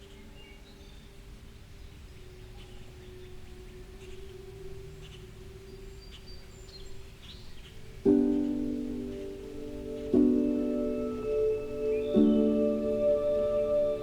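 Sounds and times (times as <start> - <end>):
bird chirps: 2.5 - 14.0.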